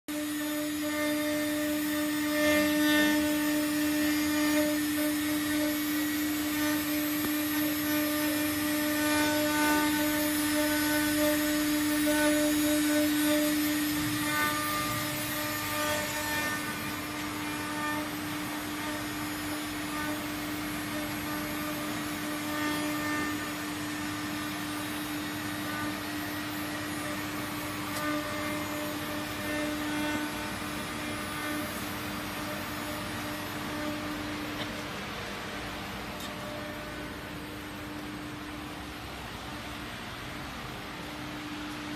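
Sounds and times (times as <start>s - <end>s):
cutter cutting board: 0.1s - 35.0s
spindle high hum: 0.1s - 41.9s.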